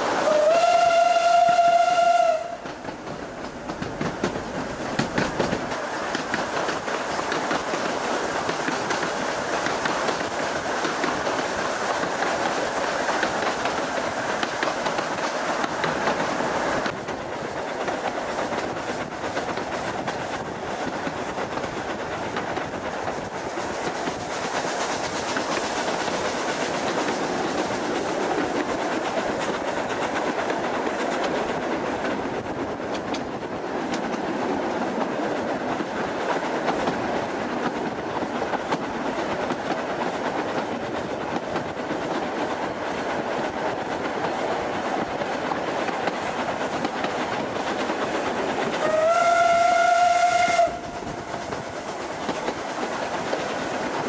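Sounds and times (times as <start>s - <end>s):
train carriage running noise: 0.0s - 54.0s
wheels clicking over rail joints: 1.4s - 54.0s.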